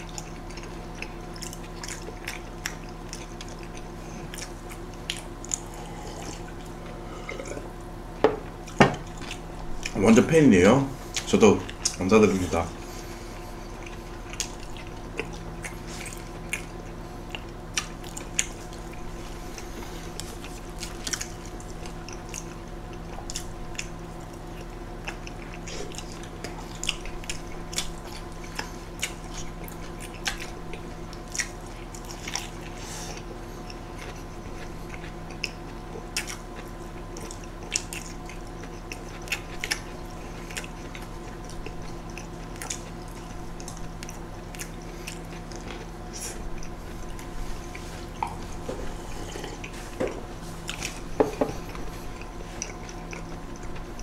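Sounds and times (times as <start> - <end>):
people chewing and biting: 0.0 - 10.2, 11.0 - 54.0
faint electrical hum: 0.0 - 54.0.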